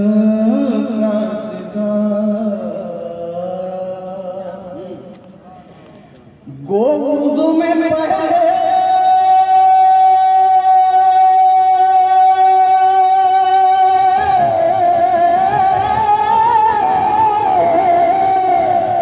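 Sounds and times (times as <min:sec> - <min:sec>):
man singing into a microphone: 0:00.0 - 0:05.2, 0:06.4 - 0:19.0.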